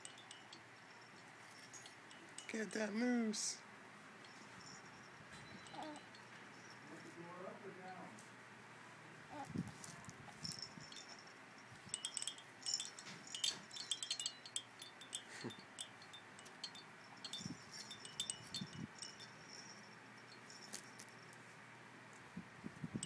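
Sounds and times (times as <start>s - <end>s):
small bells jingling: 0.0s - 8.2s, 9.3s - 21.6s.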